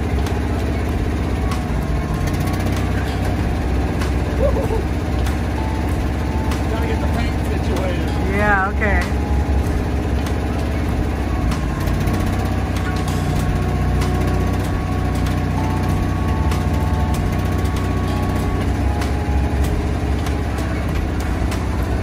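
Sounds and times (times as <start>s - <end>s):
faint steady whine: 0.0s - 22.0s
truck engine running: 0.0s - 22.0s.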